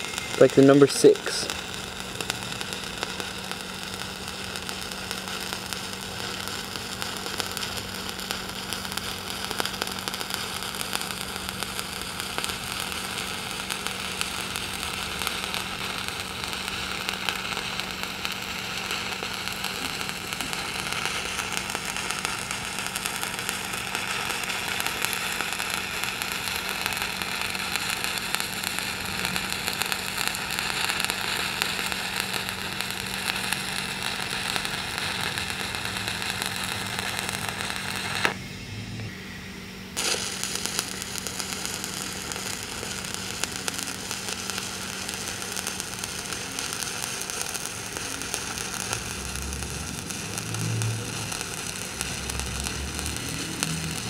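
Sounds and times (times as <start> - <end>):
welding arc crackling and sizzling: 0.0 - 38.4, 39.0 - 54.0.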